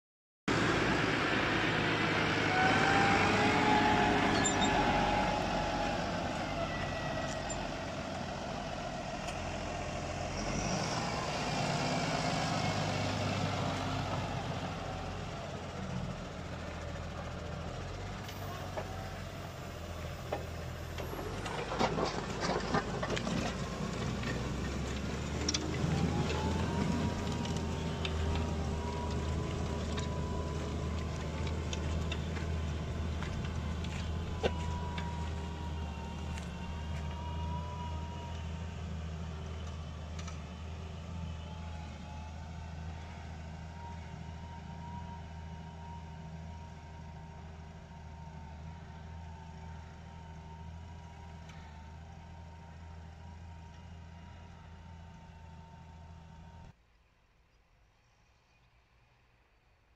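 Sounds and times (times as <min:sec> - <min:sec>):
tractor diesel engine running: 0:00.5 - 0:56.7.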